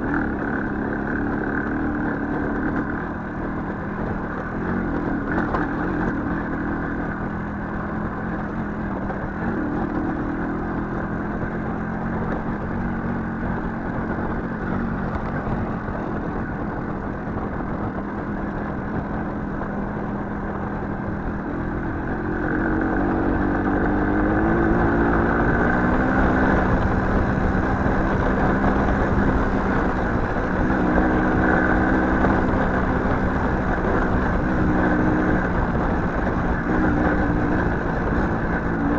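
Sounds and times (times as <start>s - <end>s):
small motorcycle engine running: 0.0s - 38.9s.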